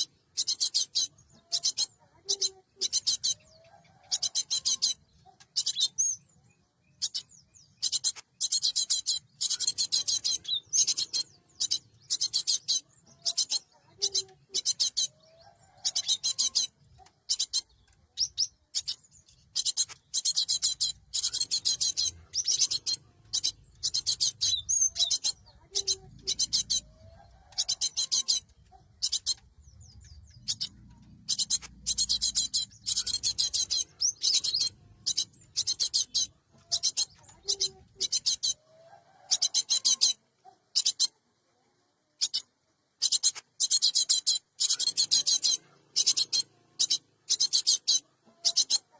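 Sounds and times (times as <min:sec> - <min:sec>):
bird scratchy chattering calls: 0:00.0 - 0:06.3, 0:07.0 - 0:38.6, 0:39.2 - 0:41.2, 0:42.2 - 0:48.9.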